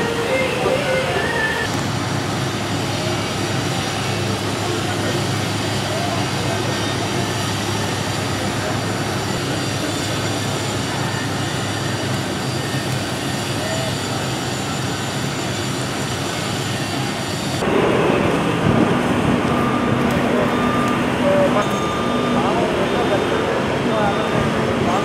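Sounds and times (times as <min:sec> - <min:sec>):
low engine drone: 0:00.0 - 0:25.0
outdoor background rush: 0:00.0 - 0:25.0.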